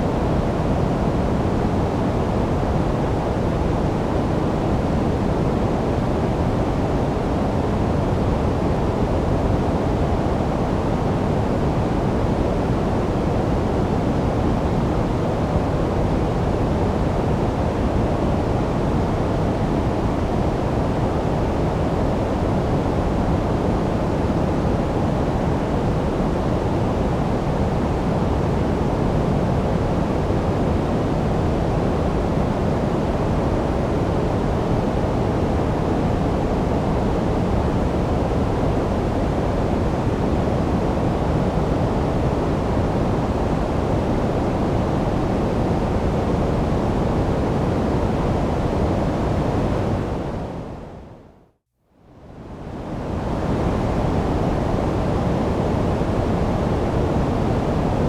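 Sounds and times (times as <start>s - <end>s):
white noise rush: 0.0s - 51.4s, 52.6s - 58.0s.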